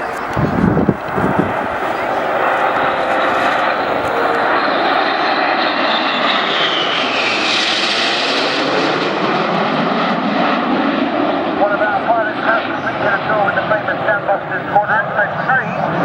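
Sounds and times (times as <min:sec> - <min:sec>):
jets flying past: 0:00.0 - 0:16.0.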